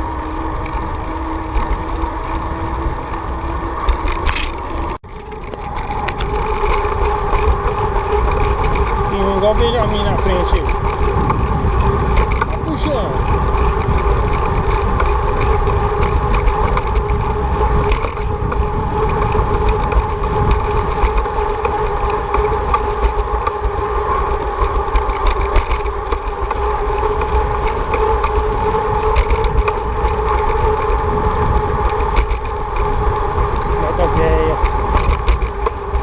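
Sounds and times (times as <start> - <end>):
tyres humming on road: 0.0 - 36.0
wind buffeting microphone: 0.0 - 36.0.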